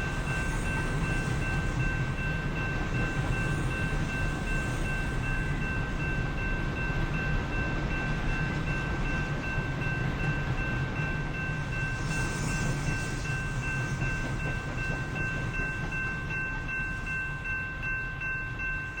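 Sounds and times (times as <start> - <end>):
freight train rumbling by: 0.0 - 19.0.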